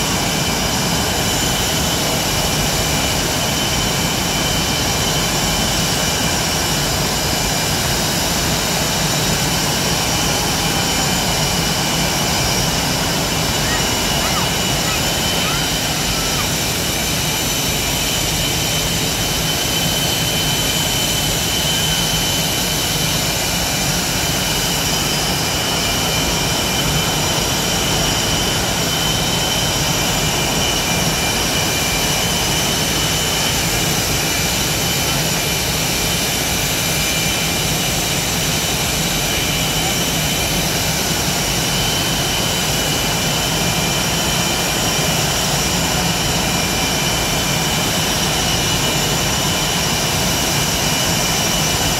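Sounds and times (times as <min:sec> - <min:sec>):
jet engines whining: 0:00.0 - 0:51.9.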